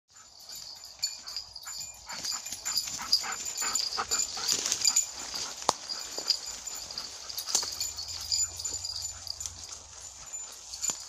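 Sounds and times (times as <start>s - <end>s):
dog breathing: 0.1s - 11.0s.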